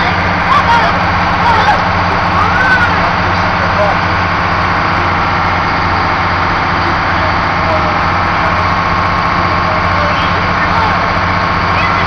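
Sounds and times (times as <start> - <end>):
boat motor droning and whining: 0.0 - 12.0.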